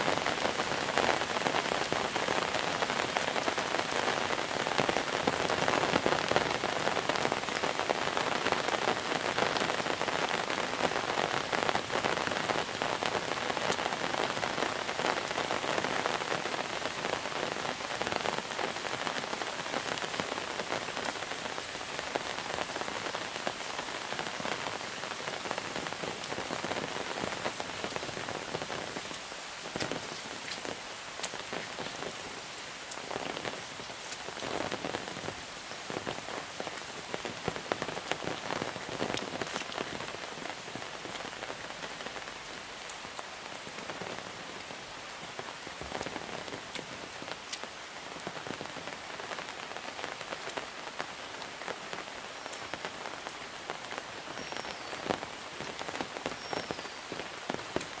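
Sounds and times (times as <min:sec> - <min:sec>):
steady heavy rain hiss: 0:00.0 - 0:58.0.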